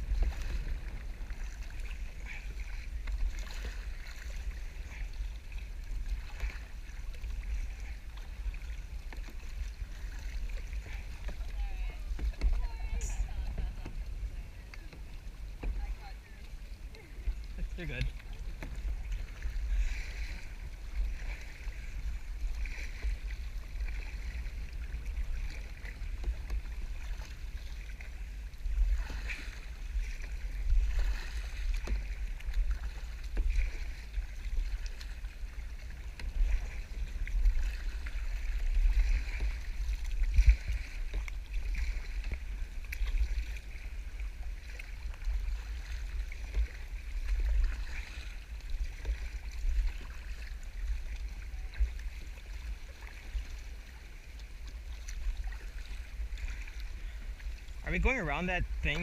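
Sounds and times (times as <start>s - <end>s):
wind rumble on microphone: 0.0s - 57.9s
water splashing at paddles: 0.0s - 59.0s.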